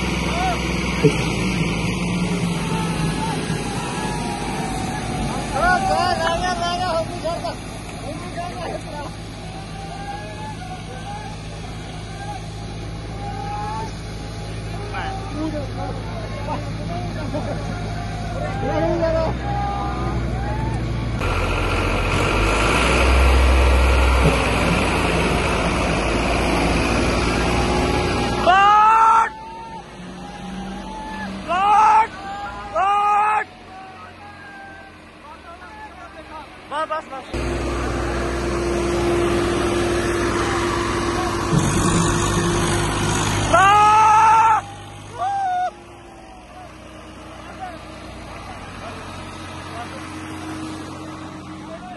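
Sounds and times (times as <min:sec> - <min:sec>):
tractor diesel engine rumble: 0:00.0 - 0:51.9.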